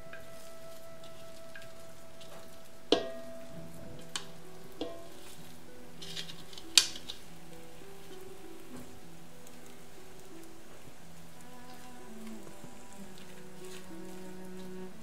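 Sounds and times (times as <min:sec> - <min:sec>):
faint sizzle: 0:00.0 - 0:15.0
soft background music: 0:00.0 - 0:15.0.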